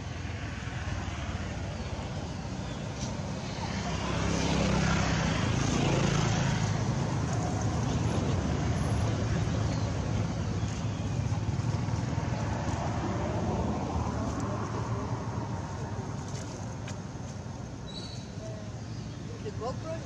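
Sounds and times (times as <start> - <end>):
vehicle engine rumbling: 1.5 - 20.0.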